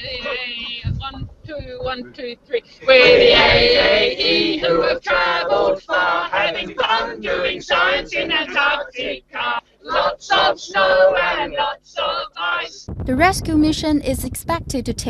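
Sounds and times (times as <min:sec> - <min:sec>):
group of people singing: 0:00.0 - 0:12.9.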